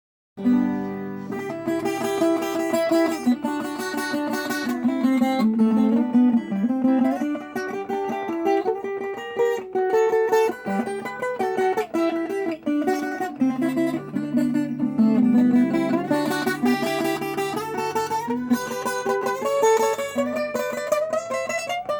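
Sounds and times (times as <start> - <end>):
guitar picked melody and chords: 0.4 - 21.9.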